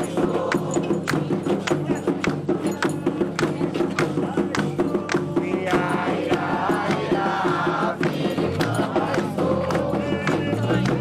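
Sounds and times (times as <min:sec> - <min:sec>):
percussion strokes: 0:00.0 - 0:11.0.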